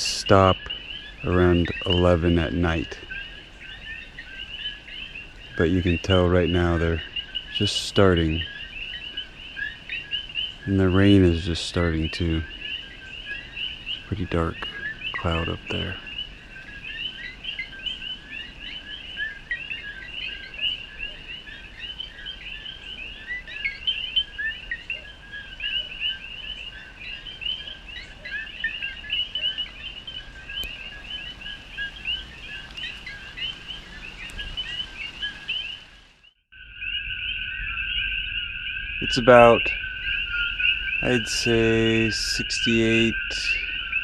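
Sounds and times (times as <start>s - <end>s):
chorus of frogs calling: 0.0s - 44.0s.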